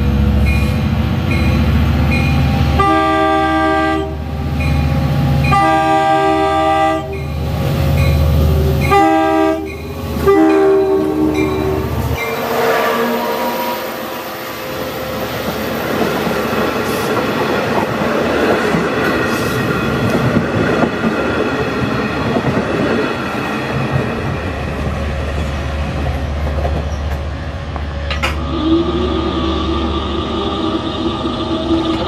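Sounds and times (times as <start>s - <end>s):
diesel train passing: 0.0s - 32.0s.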